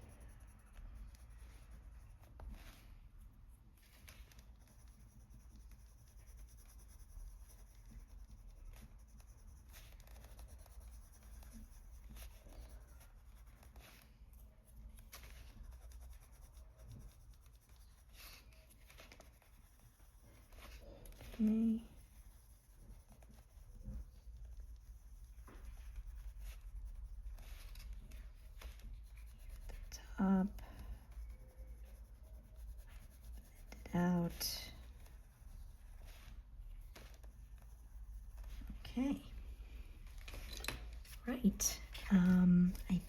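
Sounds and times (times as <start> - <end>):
pencil scratching on paper: 0.0 - 43.0.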